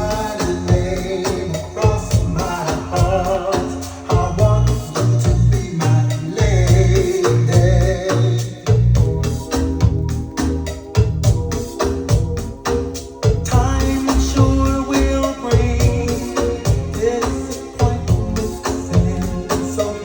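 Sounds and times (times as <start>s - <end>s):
heavy bass beat: 0.0s - 20.0s
organ-like keyboard chords: 0.0s - 20.0s
percussion: 0.0s - 20.0s.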